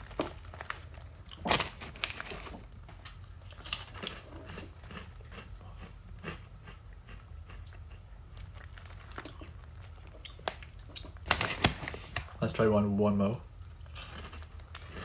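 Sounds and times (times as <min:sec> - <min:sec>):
chewing and crunching snack: 0:00.0 - 0:12.4, 0:13.5 - 0:15.0.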